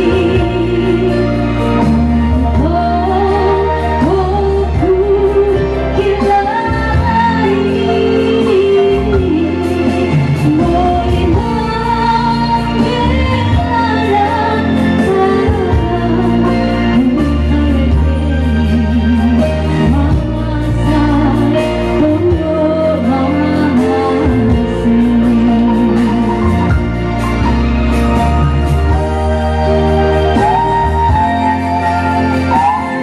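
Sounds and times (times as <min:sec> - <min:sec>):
musical accompaniment with bass: 0:00.0 - 0:33.0
woman singing into microphone: 0:00.0 - 0:33.0.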